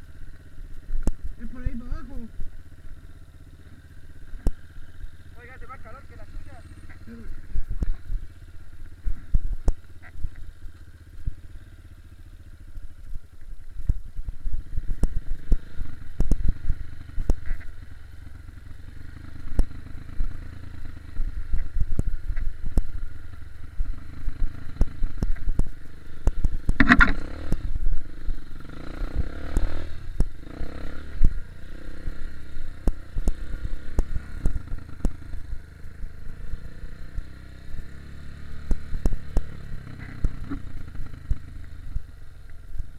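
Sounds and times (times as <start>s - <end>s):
dirt bike engine low revs: 0.0s - 12.8s, 14.4s - 42.2s.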